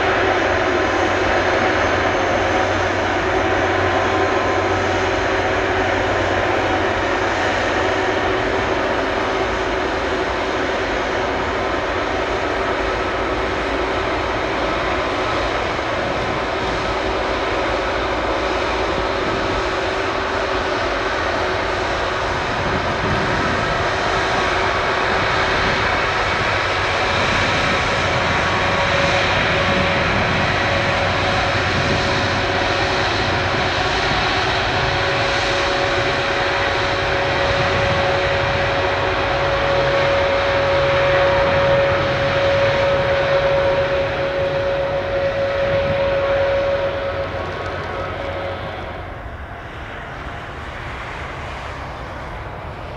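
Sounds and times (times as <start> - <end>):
higher whine: 0.0 - 52.9
jet engine rumble with whine: 0.0 - 52.9.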